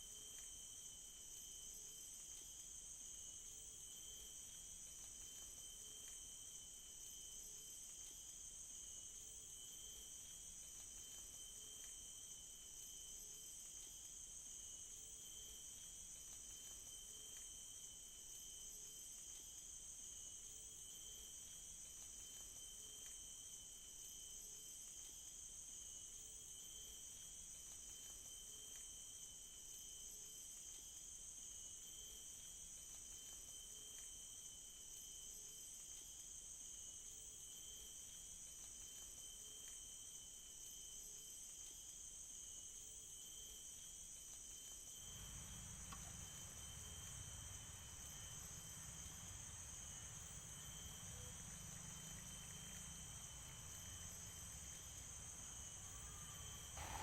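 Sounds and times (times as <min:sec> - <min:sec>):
crickets trilling: 0:00.1 - 0:57.0.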